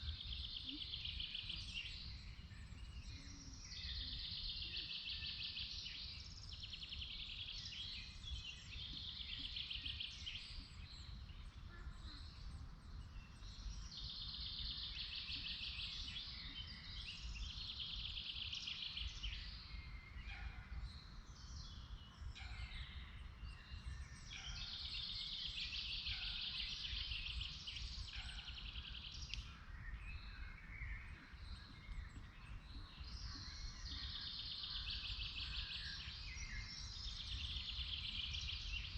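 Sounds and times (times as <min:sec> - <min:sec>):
birds chirping: 0:00.2 - 0:38.9.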